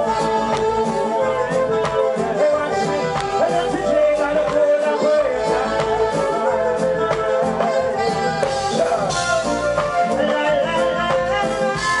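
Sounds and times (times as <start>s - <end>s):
drums: 0.0s - 12.0s
electric guitar: 0.0s - 12.0s
keyboard: 0.0s - 12.0s
man singing: 0.0s - 12.0s.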